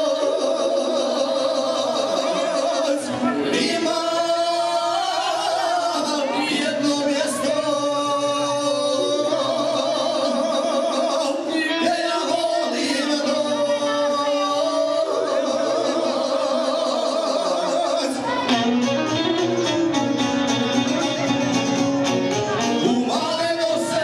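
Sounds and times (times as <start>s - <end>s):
men singing over a pa: 0.0s - 18.4s, 22.8s - 24.0s.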